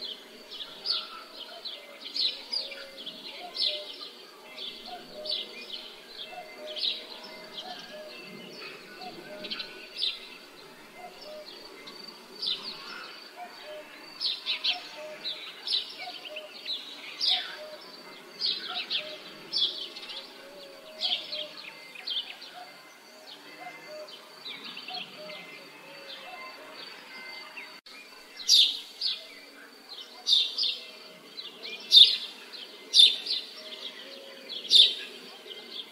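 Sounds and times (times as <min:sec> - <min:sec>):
birds chirping: 0:00.0 - 0:35.9.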